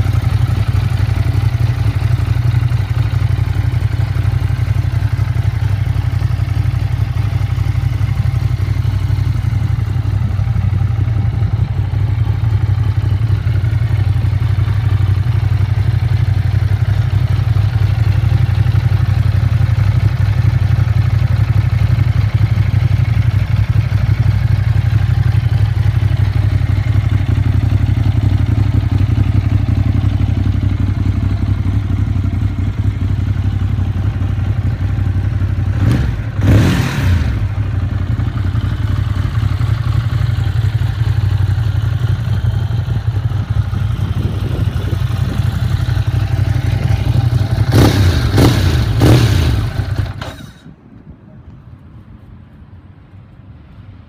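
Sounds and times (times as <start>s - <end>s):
motorcycle engine idling and revving: 0.0s - 51.6s.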